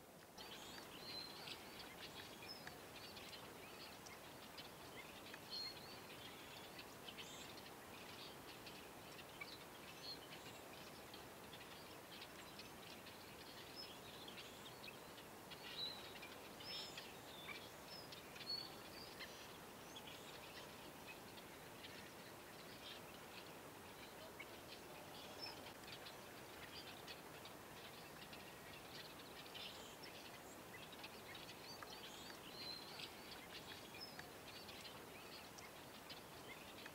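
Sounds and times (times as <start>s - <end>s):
low steady hiss: 0.0s - 36.9s.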